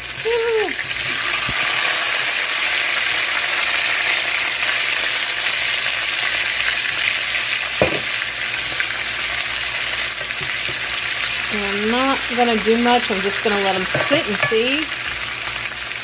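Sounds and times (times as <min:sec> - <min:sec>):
potatoes sizzling in a frying pan: 0:00.0 - 0:16.0.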